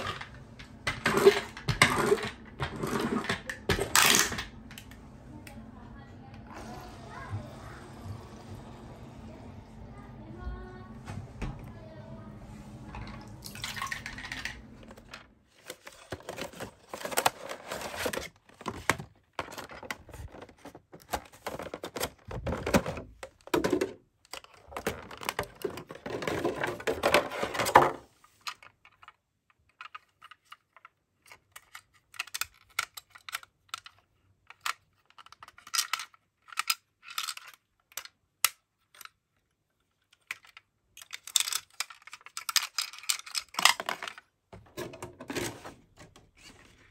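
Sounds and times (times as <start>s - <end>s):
toy doors clicking: 0.0s - 5.6s, 13.1s - 39.3s, 40.0s - 46.2s.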